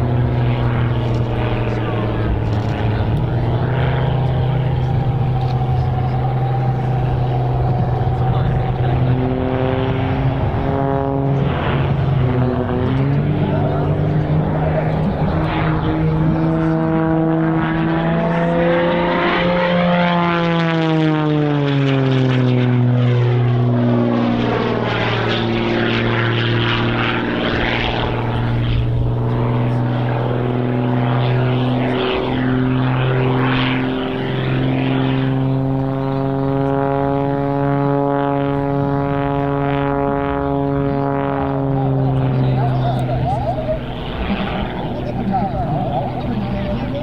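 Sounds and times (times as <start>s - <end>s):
propeller plane engine in flight: 0.0s - 47.0s.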